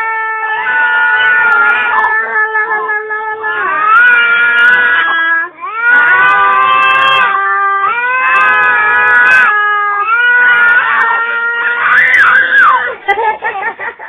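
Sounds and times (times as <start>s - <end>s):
toddler screaming: 0.0s - 13.0s.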